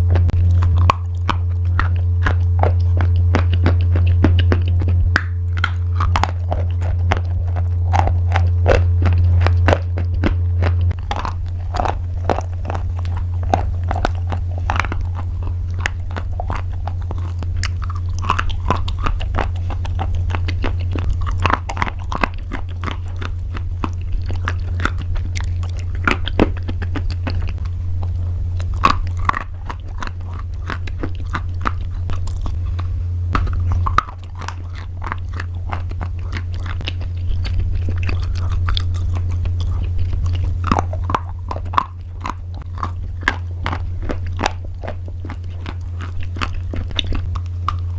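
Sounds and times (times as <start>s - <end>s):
chewing crunchy pasta: 0.0s - 47.9s
steady low hum: 0.0s - 47.9s.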